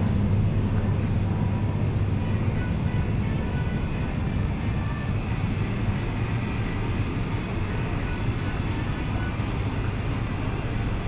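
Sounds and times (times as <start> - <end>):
faint murmur: 0.0 - 11.0
low ambient rumble: 0.0 - 11.0.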